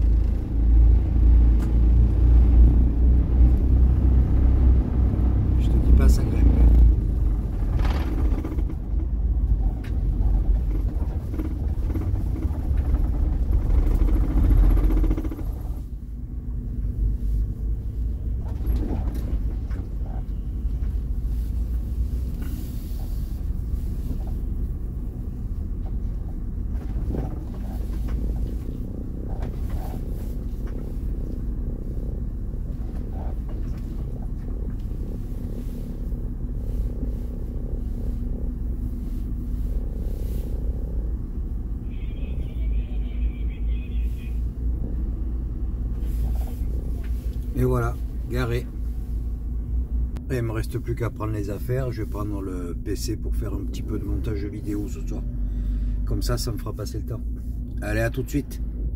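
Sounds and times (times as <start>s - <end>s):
steady low hum: 0.0s - 58.9s
vehicle engine rumbling under load: 0.0s - 58.9s.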